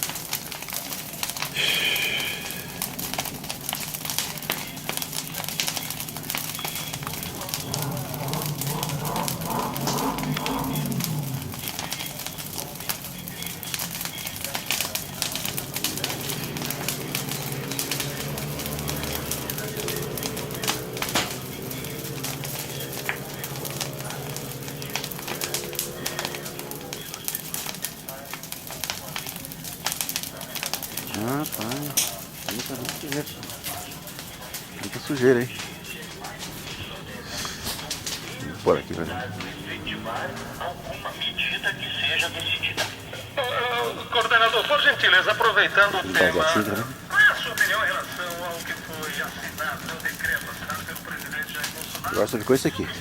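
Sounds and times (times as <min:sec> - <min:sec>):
bonfire crackling and popping: 0:00.0 - 0:53.0
faint voice: 0:00.7 - 0:53.0.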